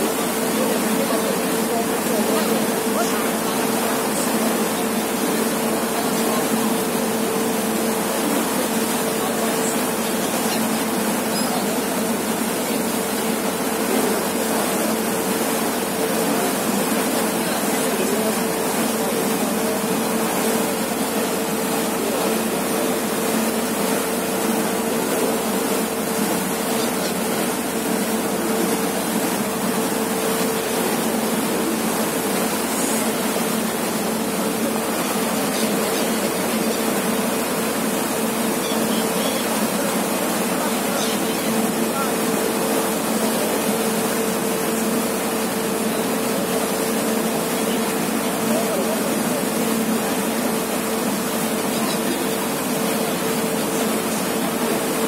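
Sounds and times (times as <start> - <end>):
churning wake water rushing: 0.0 - 55.0
ferry engine drone: 0.0 - 55.0.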